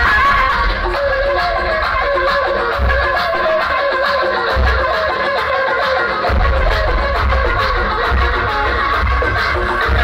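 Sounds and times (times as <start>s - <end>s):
loud dance music: 0.0s - 10.0s.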